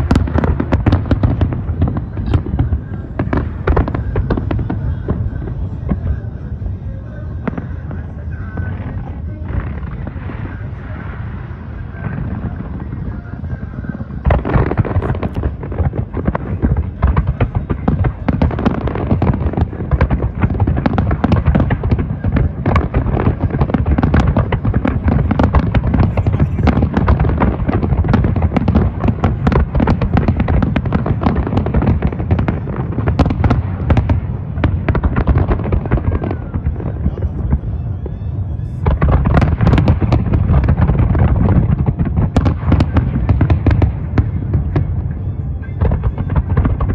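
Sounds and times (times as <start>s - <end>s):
deep rumble: 0.0s - 46.9s.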